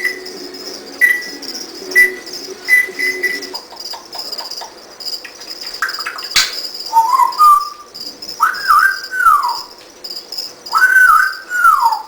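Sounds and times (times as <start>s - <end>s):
parrot whistling: 0.0s - 9.8s, 10.7s - 12.0s
crickets chirping: 0.0s - 12.0s.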